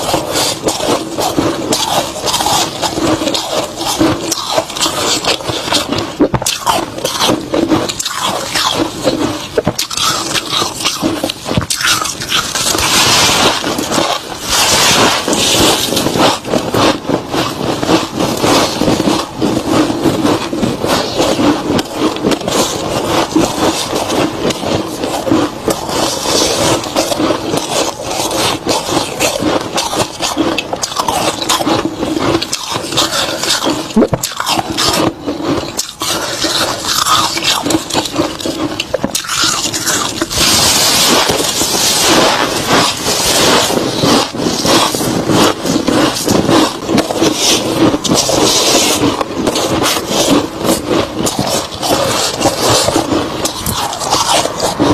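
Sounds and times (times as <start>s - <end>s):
crunching and chewing frost: 0.0s - 54.9s.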